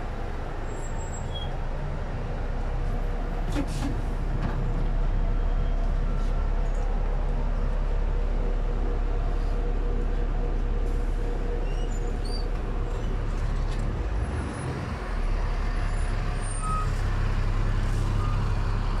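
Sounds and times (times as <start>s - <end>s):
bus engine idling: 0.0s - 19.0s
street traffic: 0.0s - 19.0s.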